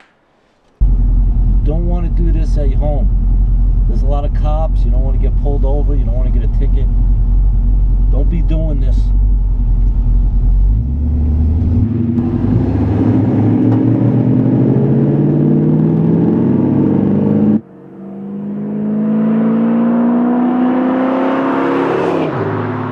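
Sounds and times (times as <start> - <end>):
hot rod engine accelerating: 0.8 - 22.9.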